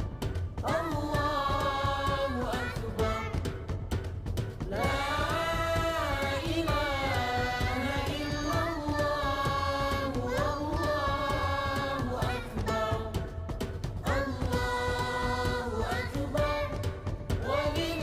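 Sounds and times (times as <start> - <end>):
person singing melodically: 0.6 - 3.5, 4.7 - 13.3, 14.0 - 18.0.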